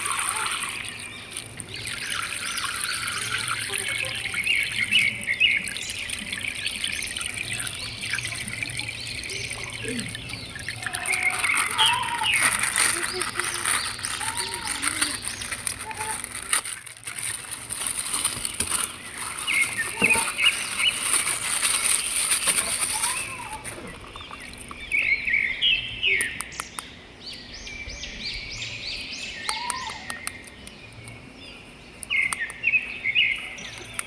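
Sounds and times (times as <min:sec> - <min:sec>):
birds chirping: 0:00.0 - 0:17.5, 0:18.3 - 0:34.0.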